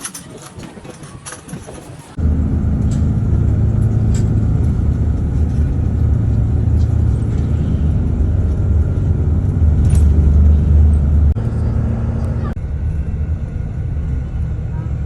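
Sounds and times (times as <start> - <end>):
motor vehicle running: 0.8 - 15.0.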